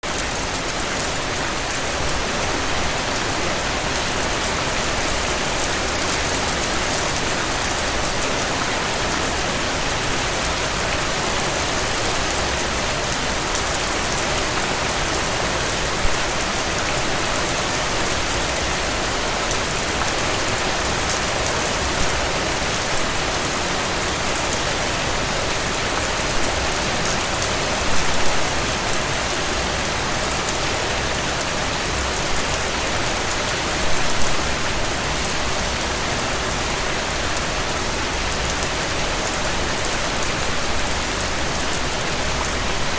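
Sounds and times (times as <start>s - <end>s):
stream of water flowing: 0.0s - 42.9s.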